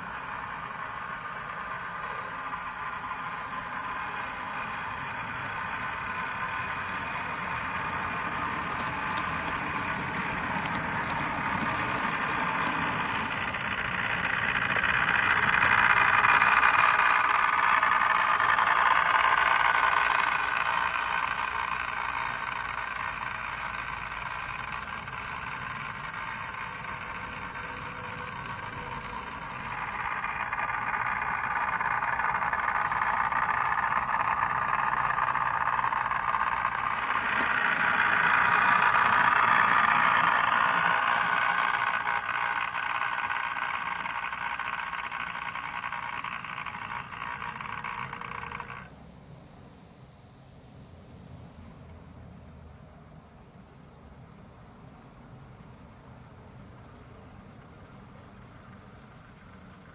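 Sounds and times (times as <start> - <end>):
model train running on track: 0.0 - 48.9, 52.8 - 59.9.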